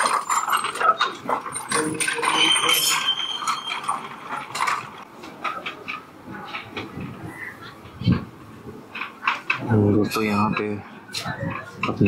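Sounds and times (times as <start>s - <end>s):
prayer wheels rattling and clicking: 0.0s - 12.0s.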